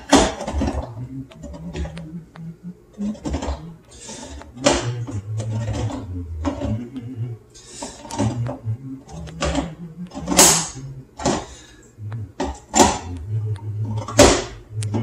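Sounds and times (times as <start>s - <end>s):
low buzzing grind: 0.0s - 15.0s.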